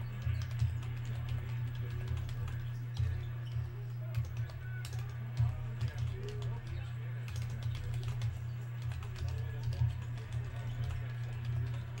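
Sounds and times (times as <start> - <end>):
faint background music: 0.0 - 12.0
typing on computer keyboard: 0.1 - 12.0.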